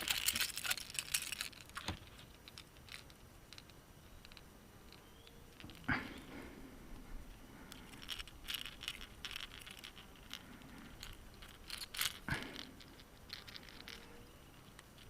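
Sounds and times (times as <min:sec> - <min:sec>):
handling clicks and rattles: 0:00.0 - 0:06.4, 0:07.6 - 0:15.0.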